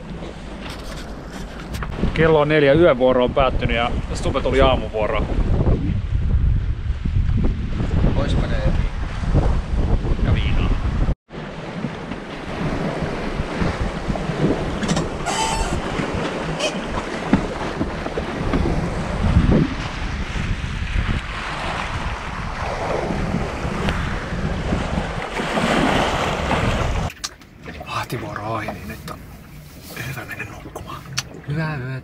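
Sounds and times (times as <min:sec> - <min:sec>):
wind buffeting microphone: 0:00.0 - 0:31.5
waves washing past hull: 0:00.0 - 0:32.0.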